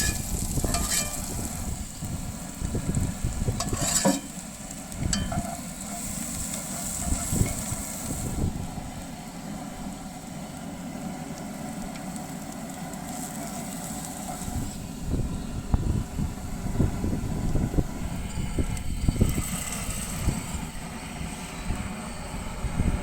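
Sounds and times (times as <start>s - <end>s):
faint sizzling: 0.0s - 23.0s
grill burner rumble: 0.0s - 23.0s.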